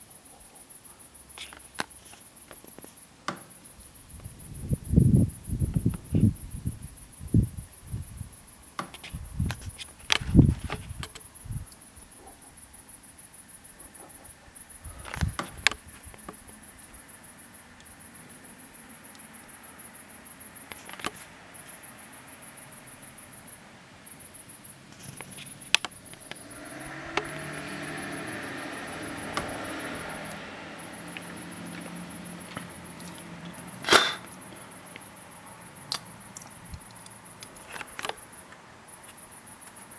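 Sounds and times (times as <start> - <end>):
insects chirping trill: 0.0 - 39.9.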